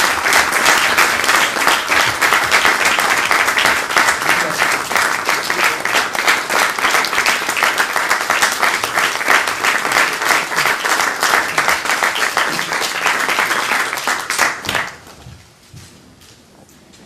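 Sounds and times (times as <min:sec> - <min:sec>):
audience applause: 0:00.0 - 0:15.1.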